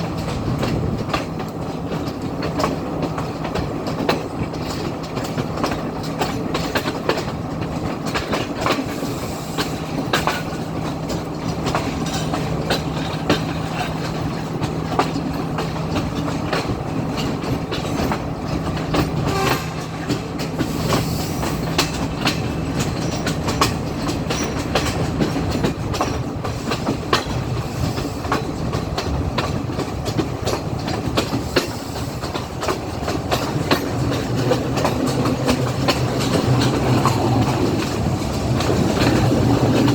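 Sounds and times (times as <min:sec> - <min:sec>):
train rumbling: 0:00.0 - 0:39.9
wheels clicking over rail joints: 0:00.0 - 0:39.9.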